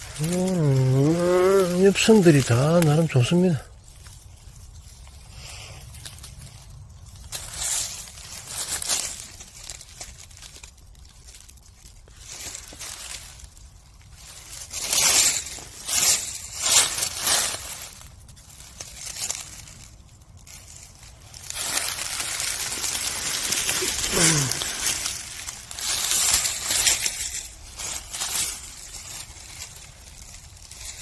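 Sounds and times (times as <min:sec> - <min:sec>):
footsteps crunching dry leaves: 0:00.0 - 0:31.0.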